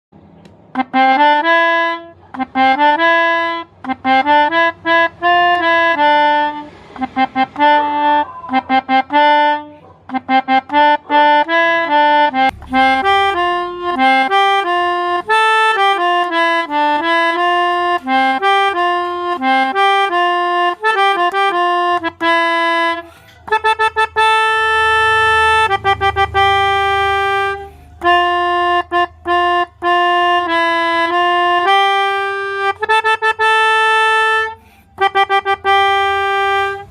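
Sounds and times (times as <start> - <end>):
bus air horns playing melody: 0.2 - 36.9.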